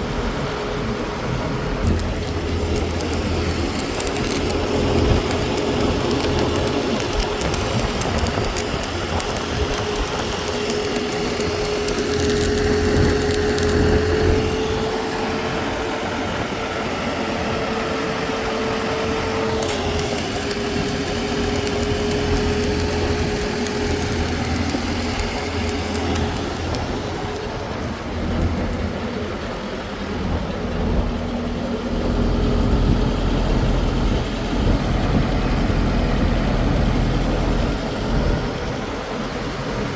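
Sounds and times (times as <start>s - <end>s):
heavy engine running: 0.0s - 39.9s
mid-pitched whine: 0.0s - 39.9s.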